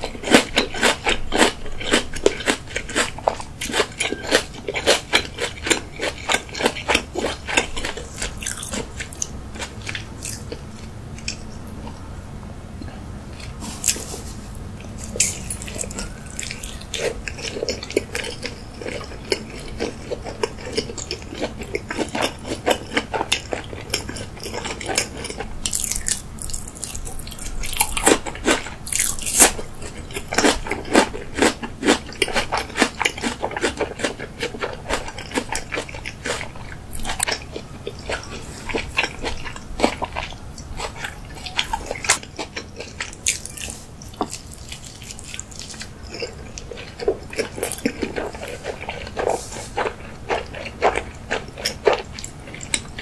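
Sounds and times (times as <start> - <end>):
wet chewing mouth sounds: 0.0 - 12.1, 12.8 - 53.0.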